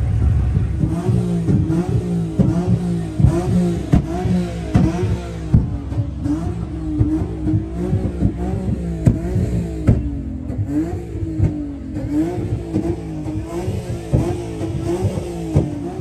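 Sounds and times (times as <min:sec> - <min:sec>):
car engine revving high: 0:00.0 - 0:16.0.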